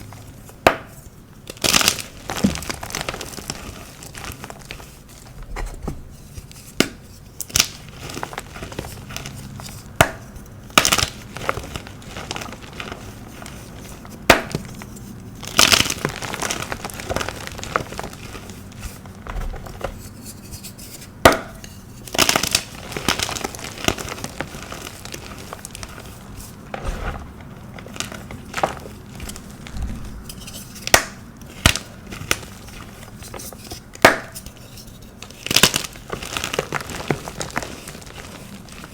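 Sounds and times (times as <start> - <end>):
chalk being crushed and crumbled: 6.5 - 38.9.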